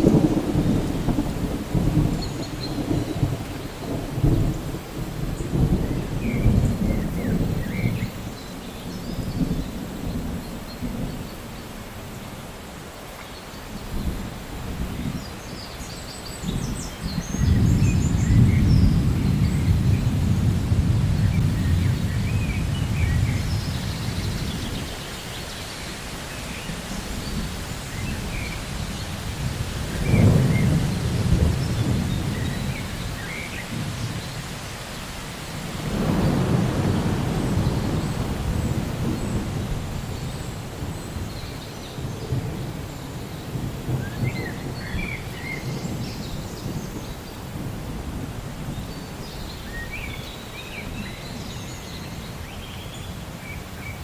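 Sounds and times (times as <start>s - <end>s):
rolling thunder: 0.0s - 11.7s, 16.4s - 25.6s, 26.3s - 34.6s, 35.5s - 53.6s
steady rain: 0.0s - 54.0s.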